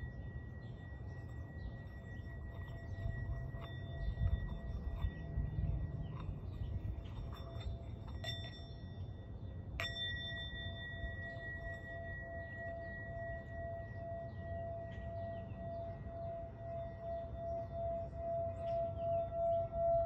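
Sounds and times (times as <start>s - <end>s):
bell-like ringing tone: 0.0s - 20.0s.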